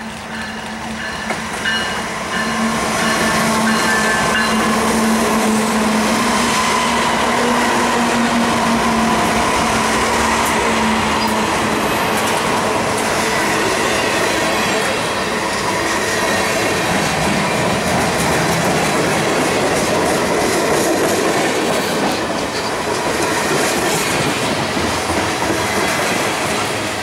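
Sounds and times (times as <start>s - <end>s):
diesel locomotive engine hum: 0.0s - 27.0s
freight cars rolling on rails: 0.0s - 27.0s.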